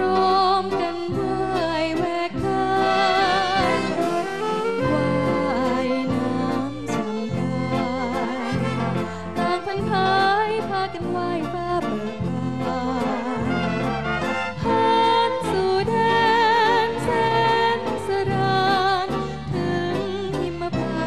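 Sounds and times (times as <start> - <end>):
woman singing into a microphone: 0.0 - 13.7, 14.5 - 21.0
band accompanying: 0.0 - 21.0.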